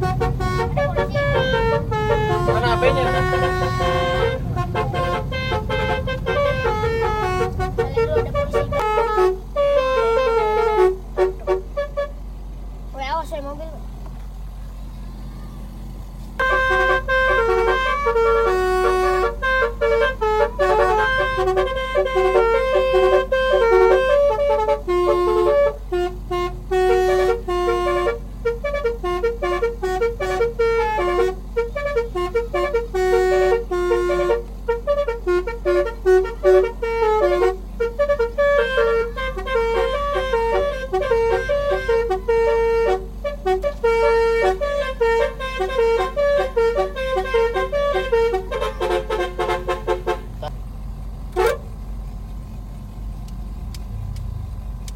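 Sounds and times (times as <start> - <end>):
multi-trumpet air horn melody: 0.0 - 12.2, 16.4 - 50.5, 51.3 - 51.7
low vehicle hum: 0.0 - 54.9.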